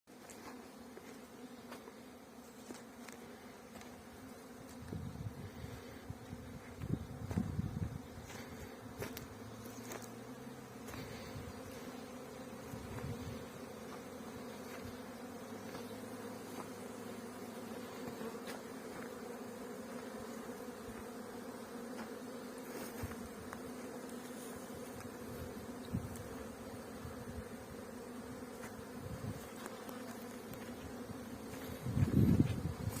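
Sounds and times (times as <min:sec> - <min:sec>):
bees buzzing: 0:00.1 - 0:33.0.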